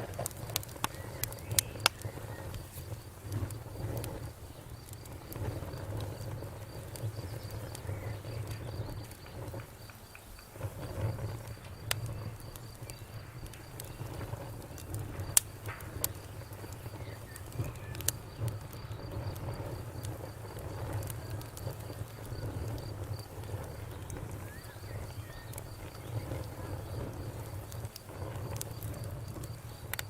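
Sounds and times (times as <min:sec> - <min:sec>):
burning wood popping: 0:00.0 - 0:30.0
campfire rumbling: 0:00.0 - 0:30.0.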